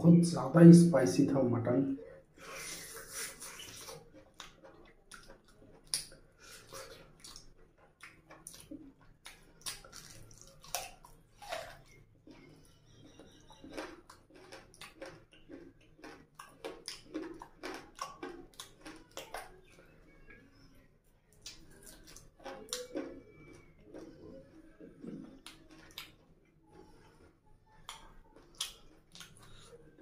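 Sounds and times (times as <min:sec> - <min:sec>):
wet chewing and lip-smacking: 0:02.4 - 0:20.4, 0:21.3 - 0:30.0.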